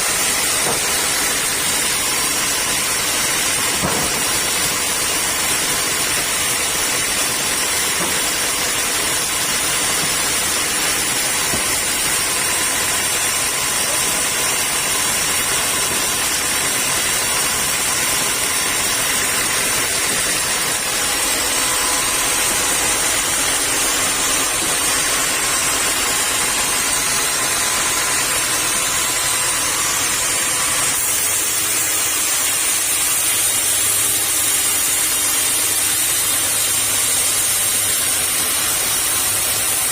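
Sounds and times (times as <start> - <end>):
sawmill saw and machinery running: 0.0 - 39.9.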